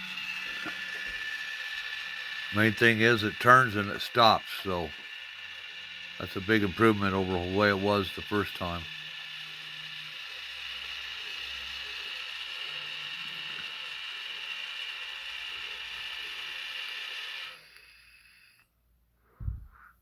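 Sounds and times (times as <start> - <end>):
electric motor whirring: 0.0 - 18.7.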